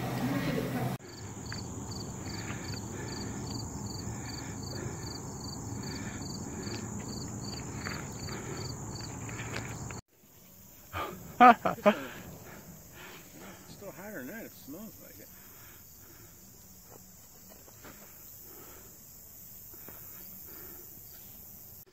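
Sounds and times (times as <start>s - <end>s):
insect chirping: 1.0s - 21.9s
insects trilling: 1.0s - 21.9s.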